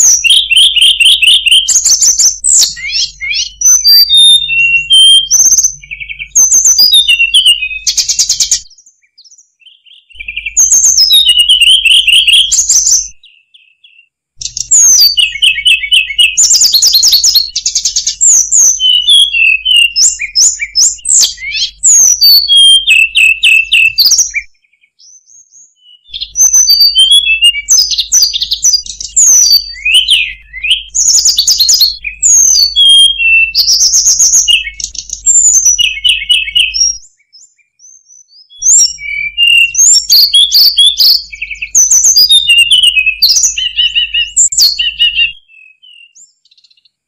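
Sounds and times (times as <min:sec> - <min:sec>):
bird singing whistled trills: 0:00.0 - 0:47.0.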